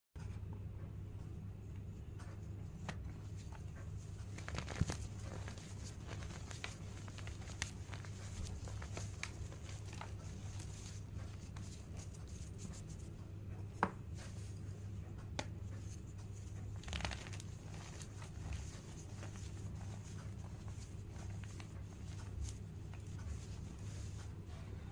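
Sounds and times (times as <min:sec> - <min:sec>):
steady low hum: 0:00.2 - 0:24.9.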